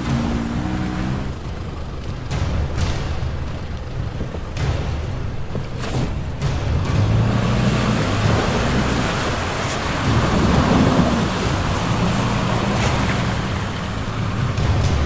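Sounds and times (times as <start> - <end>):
car engine pulling under load: 0.0 - 15.0
wheels splashing through water and mud: 0.0 - 15.0.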